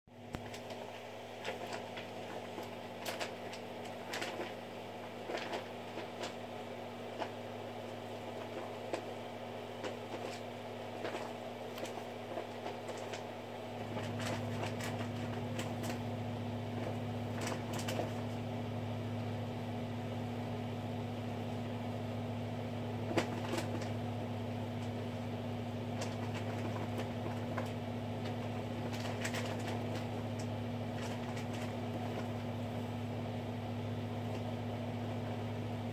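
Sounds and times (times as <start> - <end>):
low electrical hum: 0.1 - 35.9.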